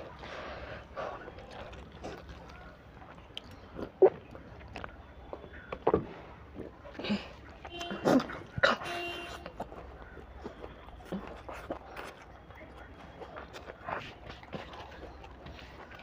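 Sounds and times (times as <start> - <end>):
chewing noodles: 0.0 - 16.0.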